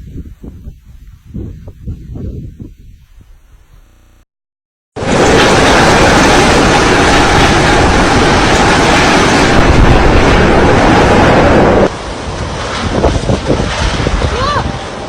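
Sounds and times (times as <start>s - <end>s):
strong wind on microphone: 0.0s - 3.9s, 5.0s - 15.0s.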